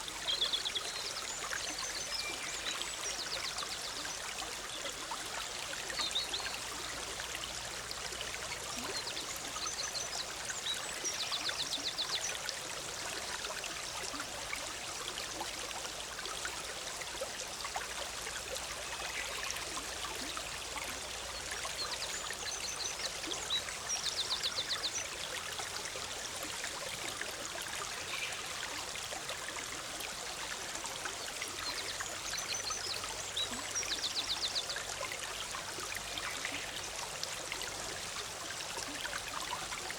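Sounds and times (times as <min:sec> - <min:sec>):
bubbling stream: 0:00.0 - 0:39.9.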